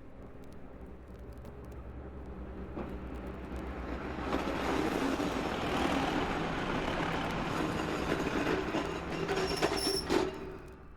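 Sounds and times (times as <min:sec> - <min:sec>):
train rumbling along track: 0:00.0 - 0:10.9.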